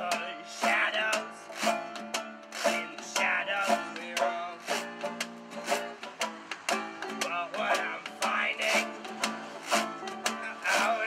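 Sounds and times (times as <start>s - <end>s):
banjo picking: 0.0s - 11.0s
nylon-string guitar picking: 0.0s - 11.0s
washboard scraping: 0.7s - 11.0s.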